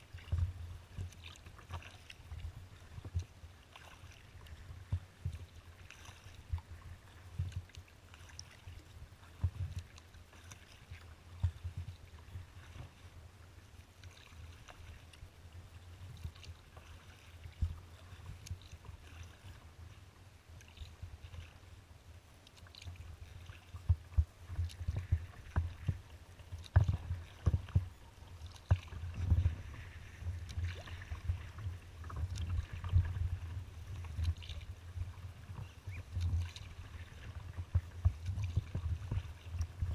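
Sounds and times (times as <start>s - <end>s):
water slapping against hull: 0.0s - 20.0s, 22.4s - 39.9s
paddle splashes: 0.0s - 39.9s.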